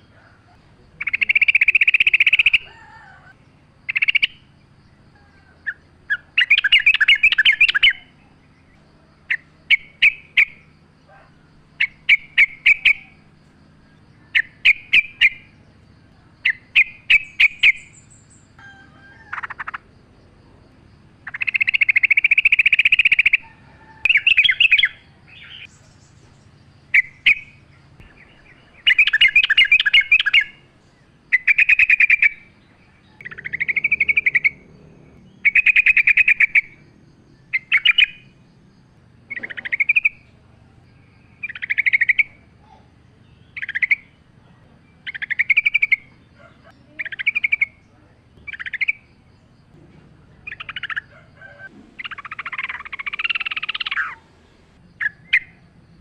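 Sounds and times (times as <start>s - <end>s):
bird chattering song: 0.0s - 18.6s, 19.2s - 56.0s.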